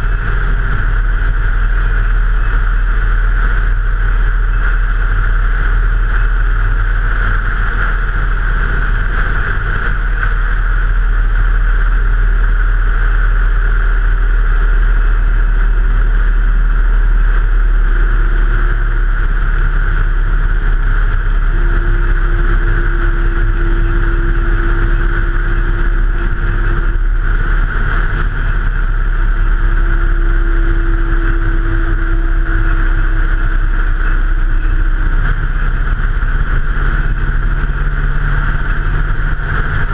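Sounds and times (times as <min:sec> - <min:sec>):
faint engine tone: 0:00.0 - 0:39.9
rushing wind: 0:00.0 - 0:39.9
vehicle rumble: 0:00.0 - 0:39.9.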